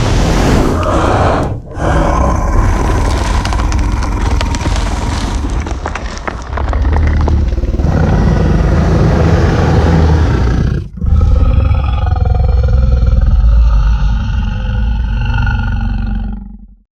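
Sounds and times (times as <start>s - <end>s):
dragon growling and roaring: 0.0s - 16.7s.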